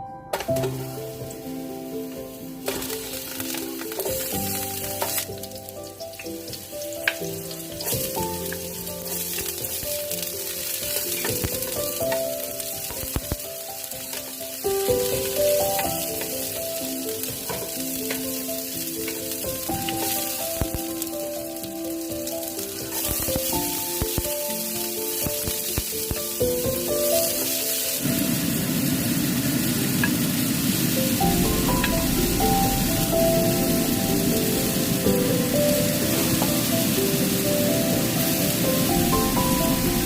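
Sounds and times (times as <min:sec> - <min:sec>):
background music: 0:00.0 - 0:40.0
food sizzling in hot oil: 0:00.4 - 0:40.0.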